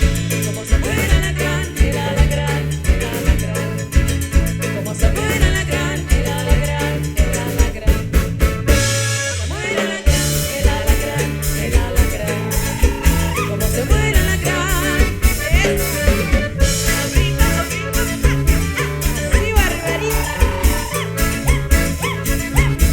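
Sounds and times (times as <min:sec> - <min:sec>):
folk band playing: 0:00.0 - 0:22.9.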